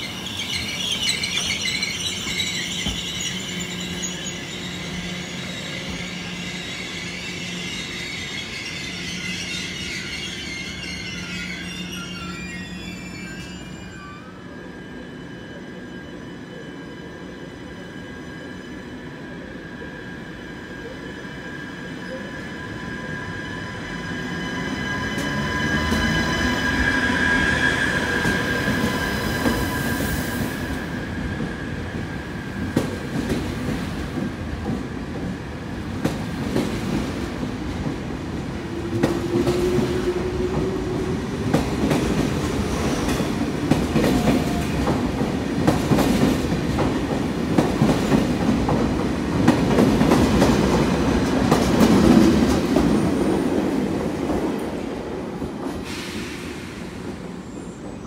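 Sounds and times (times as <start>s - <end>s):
high-pitched train squeal: 0.0s - 34.2s, 36.8s - 58.0s.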